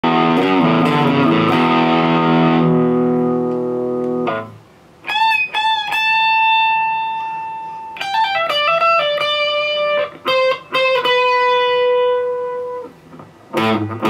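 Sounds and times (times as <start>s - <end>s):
electric guitar chords: 0.0s - 14.0s
sliding electric guitar notes: 0.0s - 14.0s.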